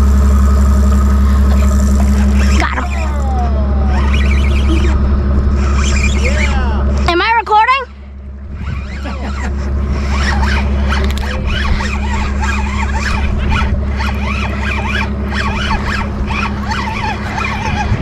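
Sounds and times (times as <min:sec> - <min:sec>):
low rumble: 0:00.0 - 0:18.0
spinning reel whirring: 0:00.0 - 0:18.0.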